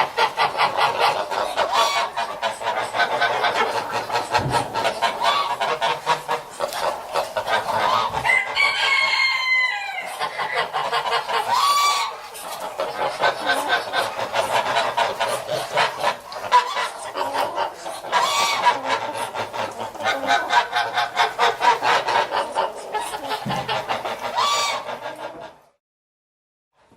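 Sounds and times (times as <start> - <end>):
geese cackling and honking: 0.0 - 25.8.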